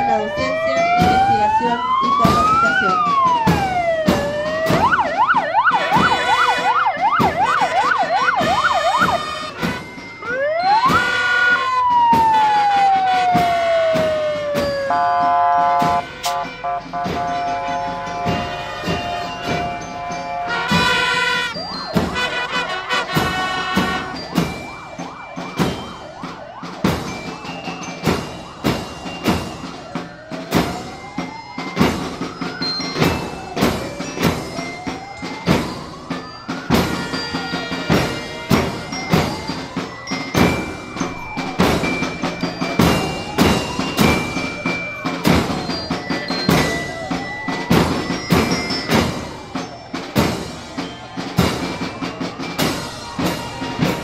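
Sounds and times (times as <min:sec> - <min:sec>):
fire engine siren wailing: 0:00.0 - 0:54.0
parade band drums and instruments: 0:00.0 - 0:54.0.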